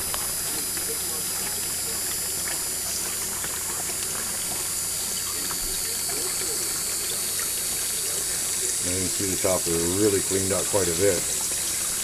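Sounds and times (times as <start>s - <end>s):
steady low pump hum: 0.0s - 12.0s
water running over ribbed mat: 0.0s - 12.0s.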